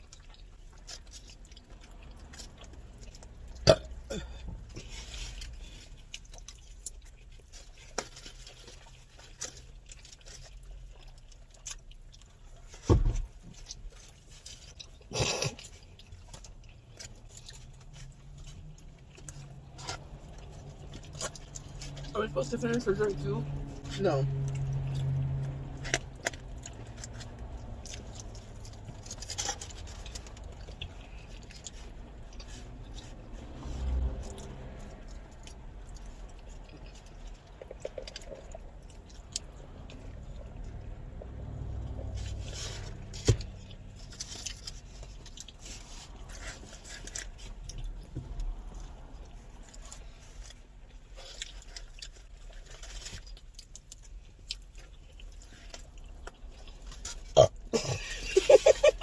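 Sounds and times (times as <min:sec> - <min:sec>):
people chewing: 0:00.0 - 0:59.0
small clicks and scrapes: 0:04.4 - 0:57.4.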